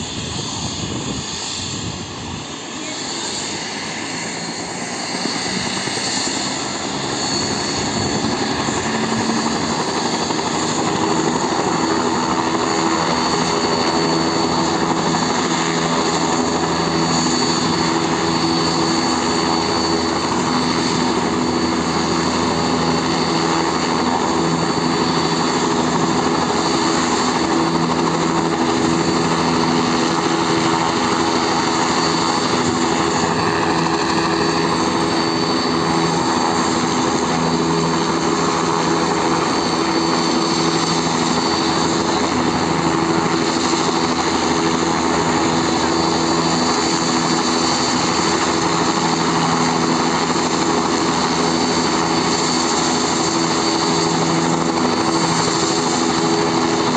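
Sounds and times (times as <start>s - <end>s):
helicopter engine high whine: 0.0s - 56.9s
helicopter rotor drone: 0.0s - 56.9s.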